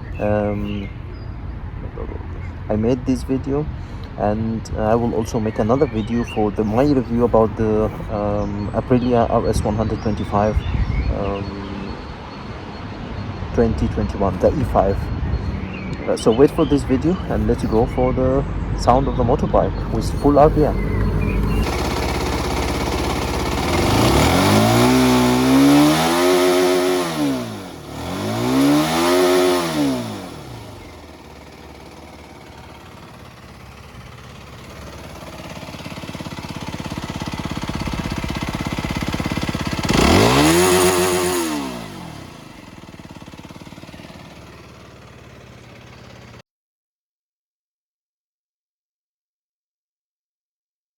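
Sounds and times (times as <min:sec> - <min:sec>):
motorcycle engine revving: 0:01.8 - 0:46.4.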